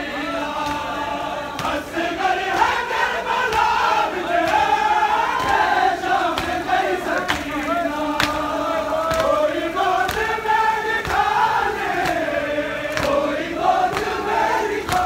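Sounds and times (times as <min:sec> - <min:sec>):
crowd of men chanting: 0:00.0 - 0:15.0
hands slapping chests: 0:00.6 - 0:09.4, 0:10.0 - 0:10.4, 0:11.0 - 0:15.0.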